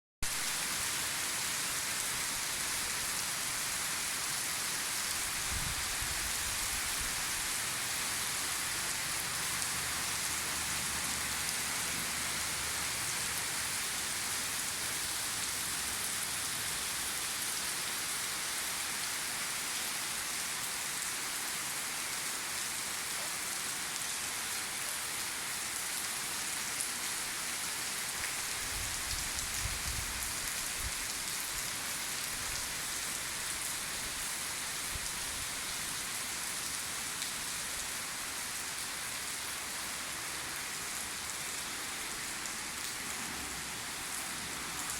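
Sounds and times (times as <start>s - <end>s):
heavy rain pouring: 0.3s - 44.9s.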